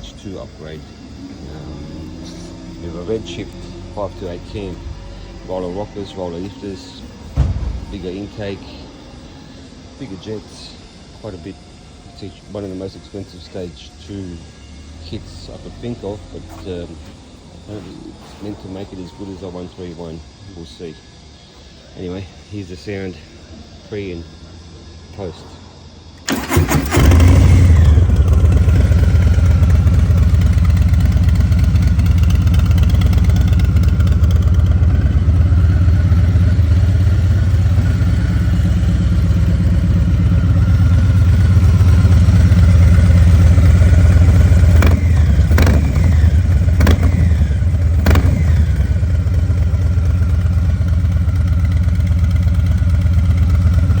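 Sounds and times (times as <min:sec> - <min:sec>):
motorcycle engine idling and revving: 0:00.0 - 0:19.7, 0:26.2 - 0:54.0.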